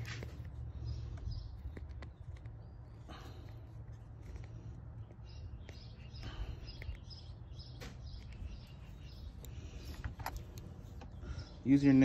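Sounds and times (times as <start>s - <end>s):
fingernail clicks and scrapes: 0.0s - 11.2s
low background rumble: 0.0s - 12.0s.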